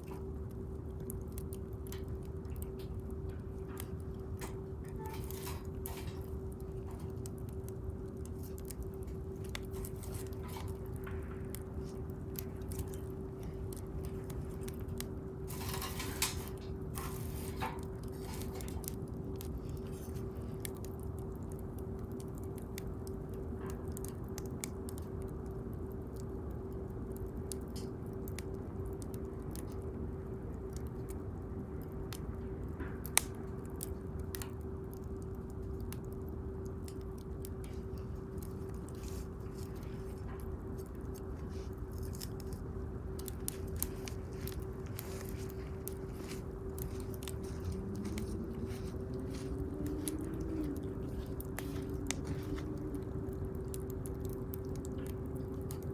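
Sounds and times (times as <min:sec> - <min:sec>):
bonfire crackling and popping: 0:00.0 - 0:55.9
steady low hum: 0:00.0 - 0:55.9.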